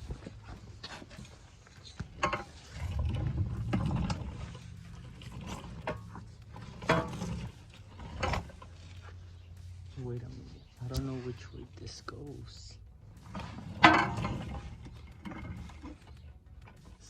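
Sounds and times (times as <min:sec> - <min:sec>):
low rumbling scrape: 0:00.0 - 0:17.0
metal exhaust pipes clanking: 0:00.0 - 0:17.0
steady low hum: 0:00.0 - 0:17.0.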